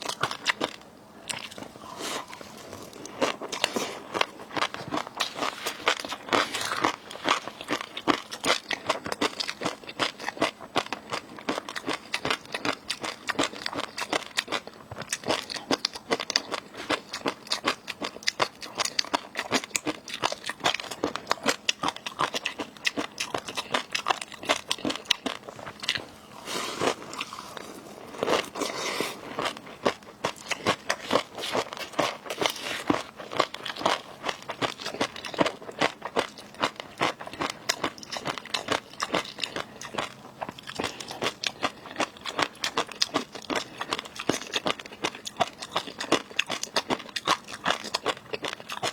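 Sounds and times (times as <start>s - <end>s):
person crunching and chewing: 0.0s - 48.9s.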